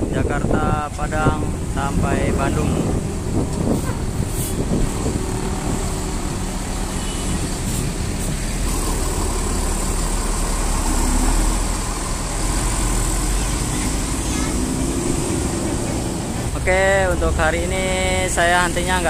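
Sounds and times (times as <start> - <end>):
bus diesel engine rumble: 0.0 - 19.0
road traffic noise: 0.0 - 19.0.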